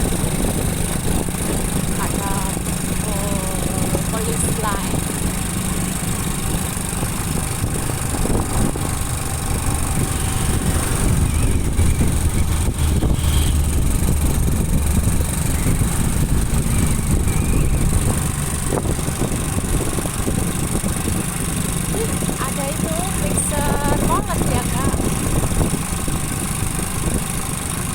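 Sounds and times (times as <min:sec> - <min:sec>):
motorcycle engine running: 0:00.0 - 0:27.9
road rumble: 0:00.0 - 0:27.9
wind: 0:00.0 - 0:27.9.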